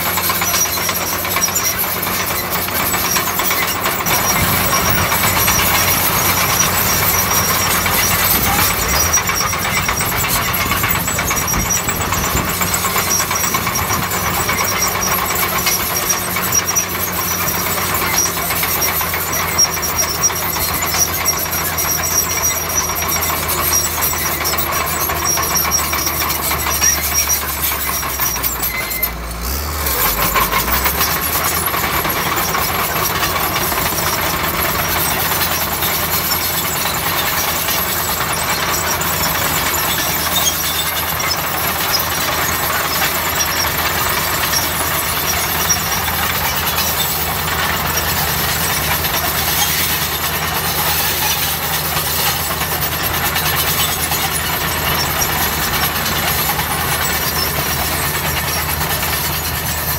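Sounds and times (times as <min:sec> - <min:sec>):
bulldozer diesel engine running: 0:00.0 - 0:59.9
metallic clatter of tracks: 0:00.0 - 0:59.9.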